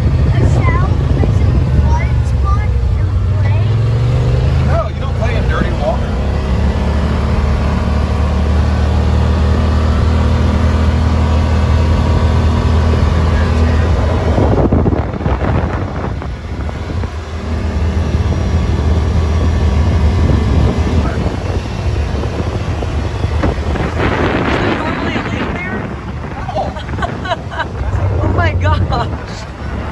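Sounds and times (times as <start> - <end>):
off-road vehicle engine running: 0.0 - 29.9.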